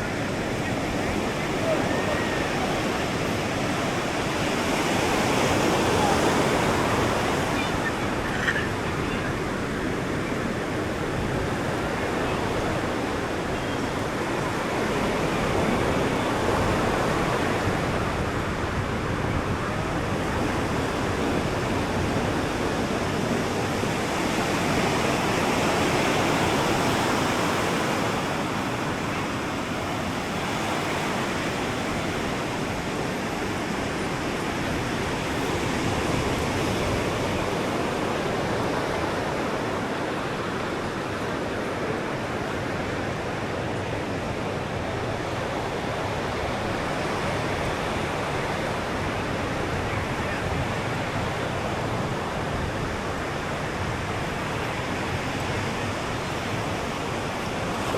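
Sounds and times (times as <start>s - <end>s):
ocean surf breaking on a beach: 0.0s - 57.9s.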